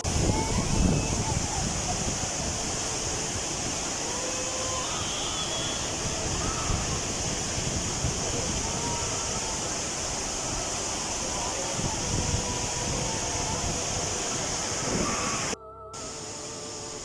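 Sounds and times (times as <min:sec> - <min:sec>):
waterfall rushing onto rock: 0:00.0 - 0:15.6.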